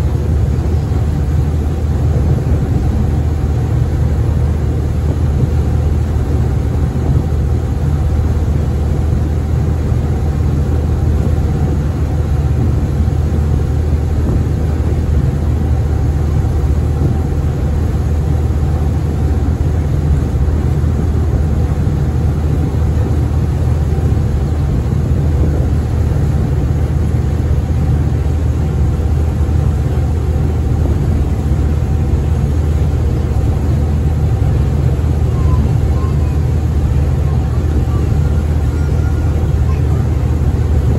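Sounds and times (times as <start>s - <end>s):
ferry engines droning: 0.0s - 40.9s.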